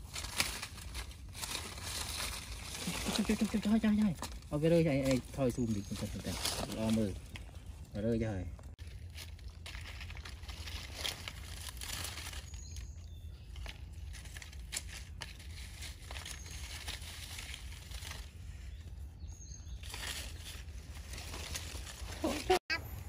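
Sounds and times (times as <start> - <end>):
dry leaves rustling and crackling: 0.0 - 22.9.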